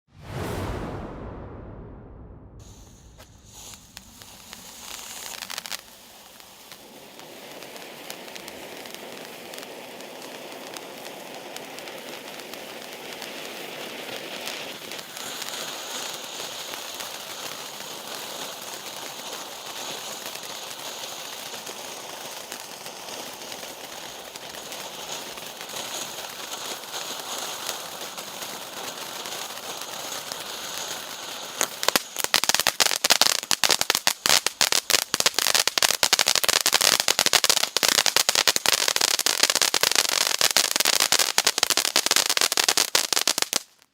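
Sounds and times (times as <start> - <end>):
firework sharp cracks: 2.4 - 43.9
firework hissing and crackling: 2.6 - 43.9.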